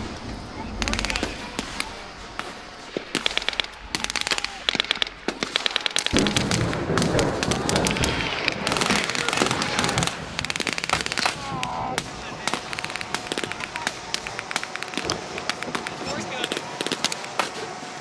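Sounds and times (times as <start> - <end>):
automatic gunfire: 0.8 - 17.8.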